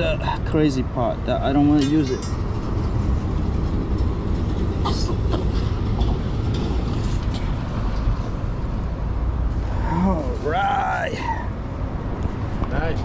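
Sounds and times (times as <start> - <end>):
passing traffic rumble: 0.0 - 13.0.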